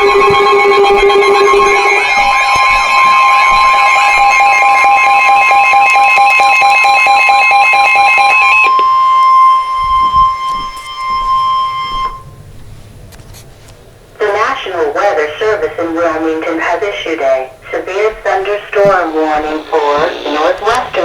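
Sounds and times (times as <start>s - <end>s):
steady high tone: 0.0s - 12.6s, 14.2s - 21.0s
warbling multi-tone alarm: 0.0s - 12.6s, 14.2s - 21.0s.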